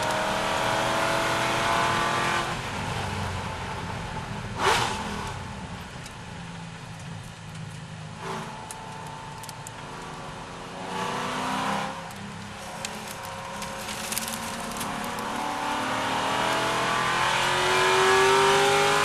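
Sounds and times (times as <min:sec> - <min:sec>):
car engine racing: 0:00.0 - 0:19.0.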